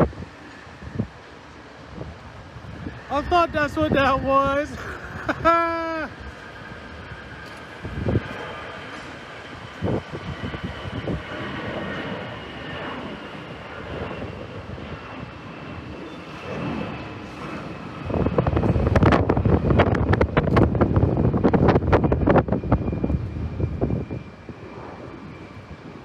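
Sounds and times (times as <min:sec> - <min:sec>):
jet engine roar: 0:00.0 - 0:26.0
wind buffeting microphone: 0:00.0 - 0:26.0.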